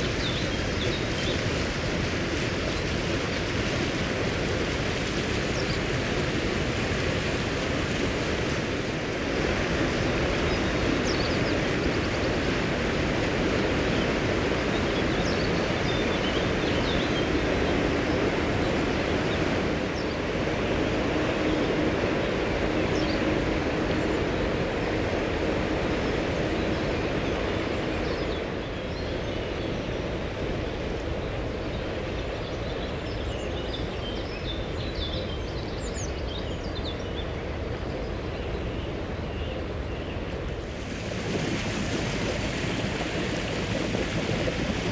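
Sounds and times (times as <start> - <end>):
wind buffeting the microphone: 0.0 - 44.9.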